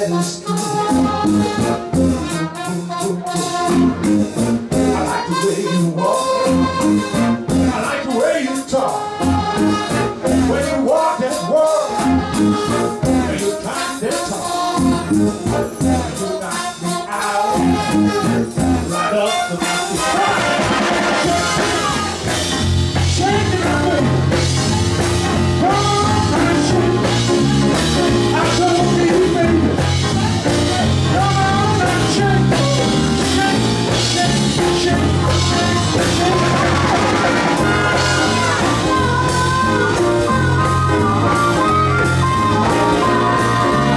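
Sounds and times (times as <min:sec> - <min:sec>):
live band playing: 0:00.0 - 0:43.9
rhythmic bass line: 0:00.0 - 0:43.9.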